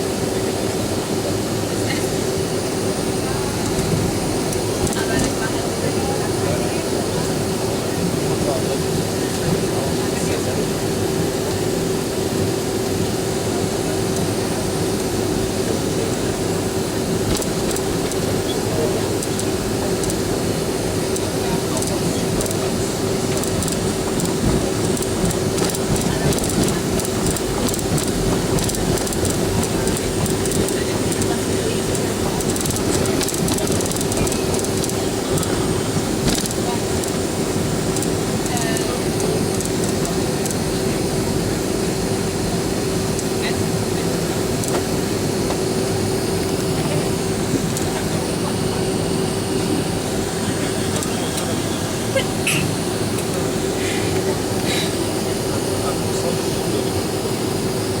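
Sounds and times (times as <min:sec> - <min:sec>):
jet engines humming: 0:00.0 - 0:58.0
wheels rumbling over pavement: 0:01.5 - 0:58.0.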